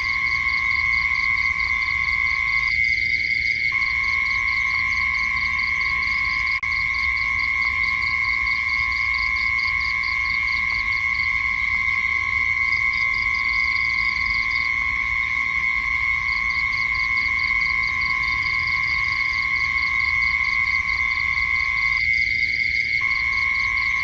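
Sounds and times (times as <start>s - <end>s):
insects buzzing drone: 0.0s - 24.0s
rapid insect chirping: 0.0s - 24.0s.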